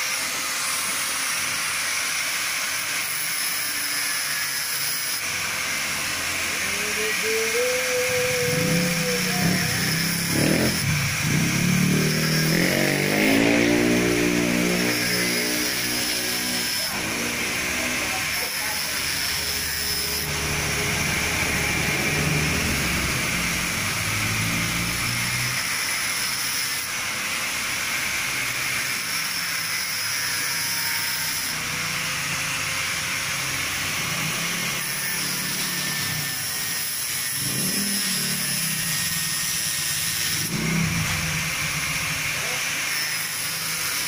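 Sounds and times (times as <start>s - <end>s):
angle grinder grinding metal: 0.0s - 44.0s.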